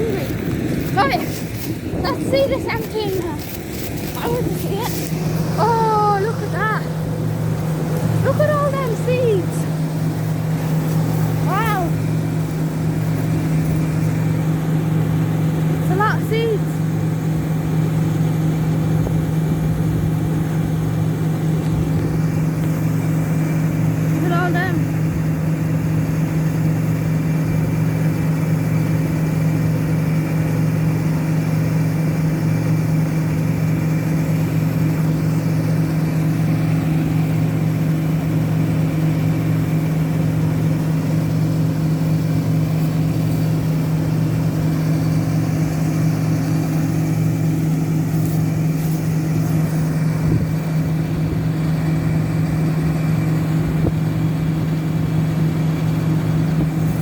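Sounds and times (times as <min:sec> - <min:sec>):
combine unloading grain: 0:00.0 - 0:16.6, 0:21.1 - 0:57.0
diesel machinery droning: 0:00.0 - 0:57.0.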